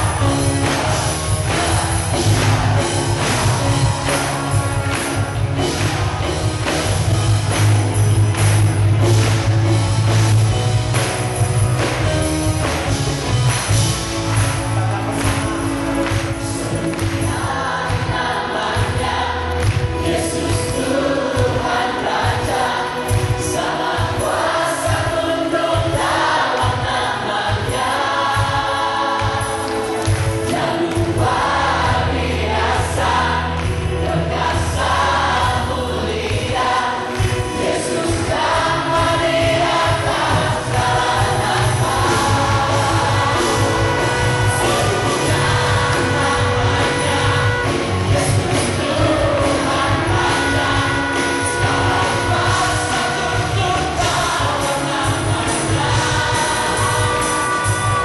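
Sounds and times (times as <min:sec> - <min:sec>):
heavy bass: 0:00.0 - 0:25.0, 0:30.0 - 0:58.0
group of voices singing: 0:00.0 - 0:58.0
live gospel music: 0:00.0 - 0:58.0
steady drum beat: 0:00.0 - 0:58.0.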